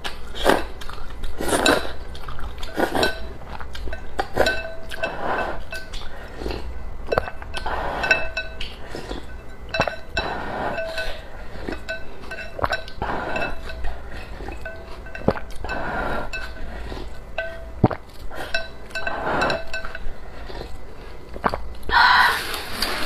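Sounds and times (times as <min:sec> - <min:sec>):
noodles being slurped: 0:00.0 - 0:23.0
chopsticks clinking against ceramic bowl: 0:00.8 - 0:20.8.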